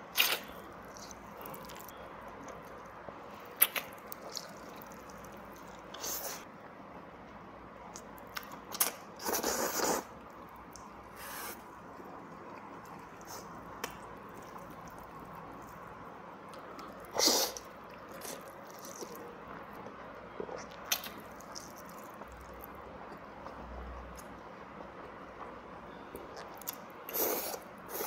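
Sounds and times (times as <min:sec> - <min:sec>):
quiet chewing: 0:00.2 - 0:06.5, 0:07.9 - 0:25.5.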